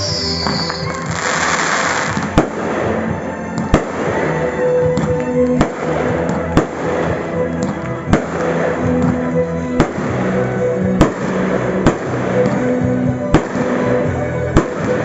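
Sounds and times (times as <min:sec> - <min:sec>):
fireworks bangs: 0:00.0 - 0:15.0
music with long held notes: 0:00.0 - 0:15.0.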